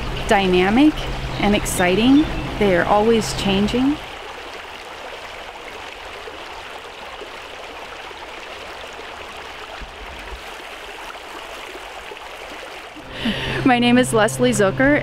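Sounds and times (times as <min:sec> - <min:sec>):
stream water running: 0:00.0 - 0:15.0.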